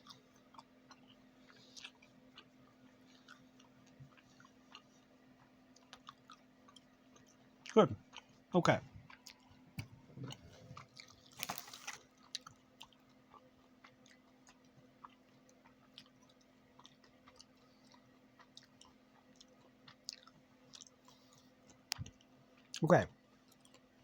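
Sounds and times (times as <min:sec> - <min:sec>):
chewing crunchy candy: 0:00.0 - 0:24.0.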